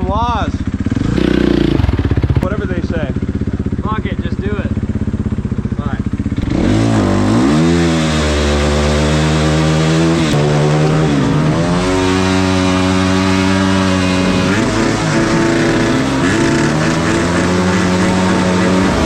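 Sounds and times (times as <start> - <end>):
dirt bike engine running hard: 0.0 - 19.0.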